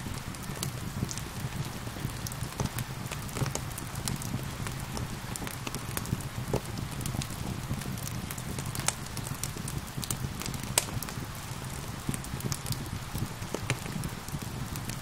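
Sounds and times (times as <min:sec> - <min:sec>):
rain falling: 0:00.0 - 0:15.0
wood fire crackling: 0:00.0 - 0:15.0.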